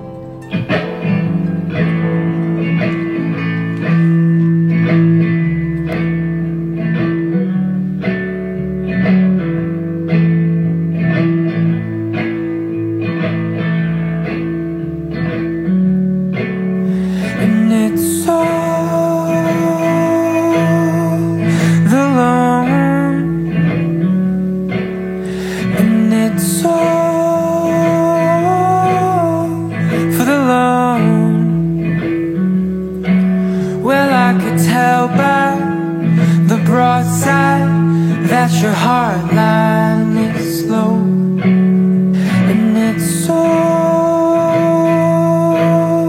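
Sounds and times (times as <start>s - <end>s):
plucked guitar instrumental: 0.0s - 46.0s.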